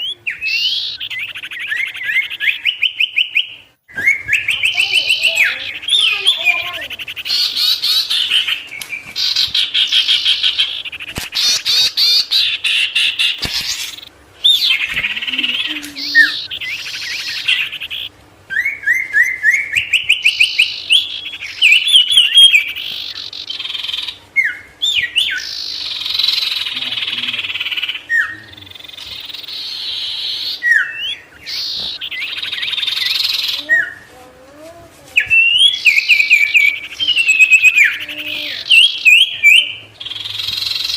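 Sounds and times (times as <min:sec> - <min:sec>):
songbird singing trills and whistles: 0:00.0 - 0:34.1, 0:35.1 - 0:40.9.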